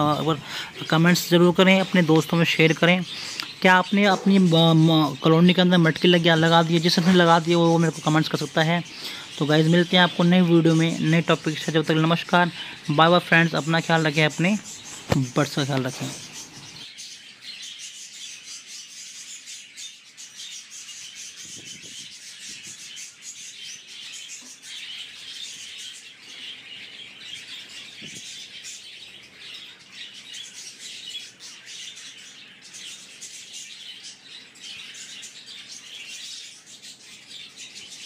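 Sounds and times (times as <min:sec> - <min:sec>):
budgerigars chattering and chirping: 0:00.0 - 0:38.0.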